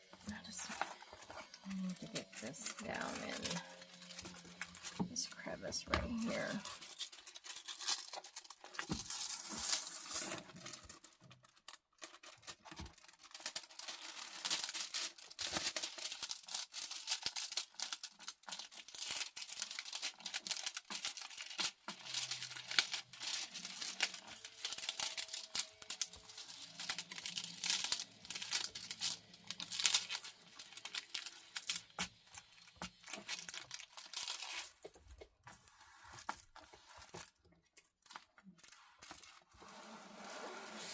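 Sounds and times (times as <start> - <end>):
plastic film crinkling: 0.1 - 40.9.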